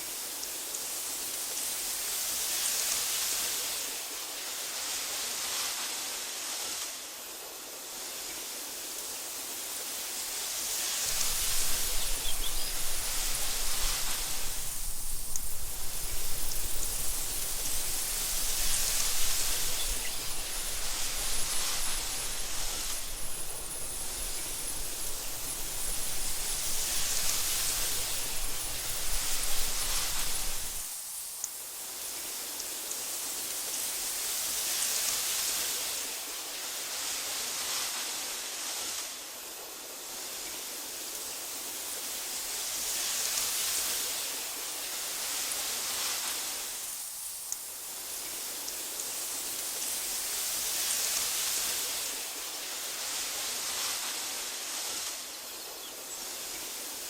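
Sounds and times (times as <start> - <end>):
wind hissing through grass: 0.0 - 57.0.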